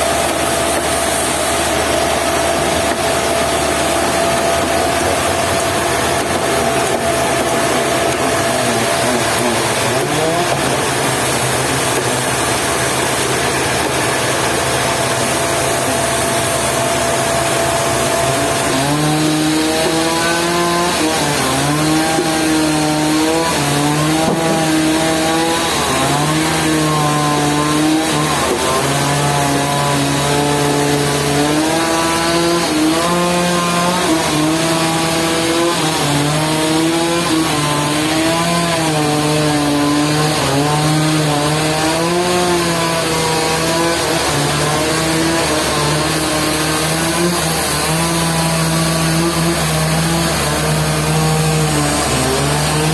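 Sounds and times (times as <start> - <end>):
engine-driven sawmill running: 0.0 - 52.9.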